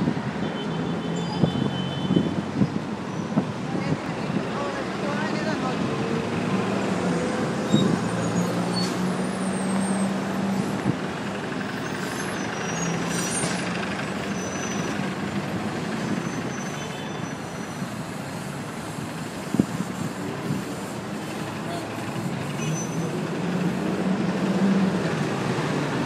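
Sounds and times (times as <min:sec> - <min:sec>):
street traffic: 0:00.0 - 0:26.0
bus engine humming: 0:04.1 - 0:26.0.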